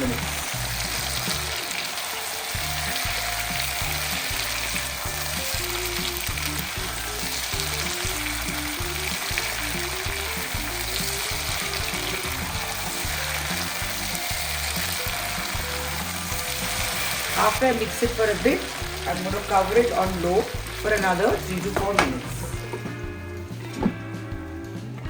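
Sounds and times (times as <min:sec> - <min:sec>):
food sizzling in hot oil: 0:00.0 - 0:22.8
background music: 0:00.0 - 0:25.0.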